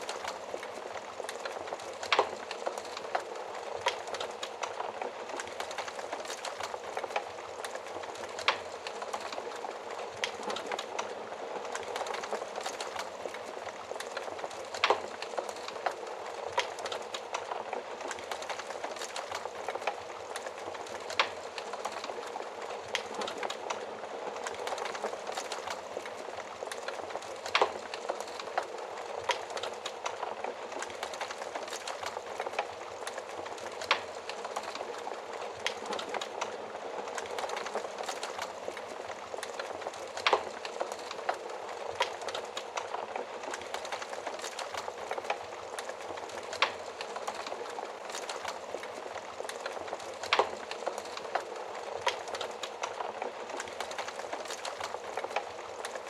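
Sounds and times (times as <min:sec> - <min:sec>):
fire crackling in an oven: 0:00.0 - 0:56.0.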